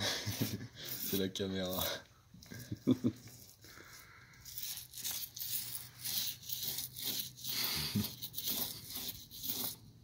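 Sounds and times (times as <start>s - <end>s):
paint roller rolling: 0.2s - 9.8s.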